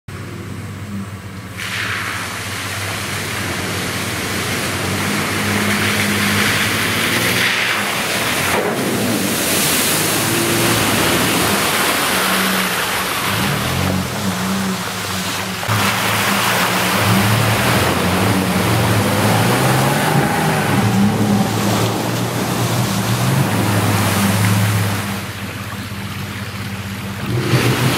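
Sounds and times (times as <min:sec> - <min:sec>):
pickup engine pulling: 0:00.1 - 0:27.9
water rushing from tyres: 0:01.3 - 0:27.9.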